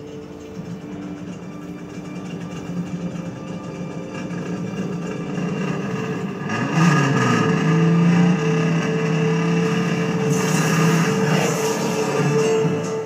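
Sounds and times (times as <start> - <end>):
race car engine revving: 1.4 - 13.0.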